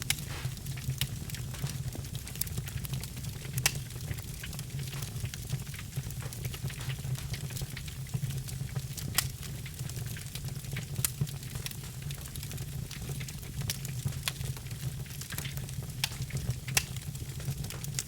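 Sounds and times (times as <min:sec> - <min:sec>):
logs crackling and popping: 0:00.0 - 0:18.0
low fire rumble: 0:00.0 - 0:18.0.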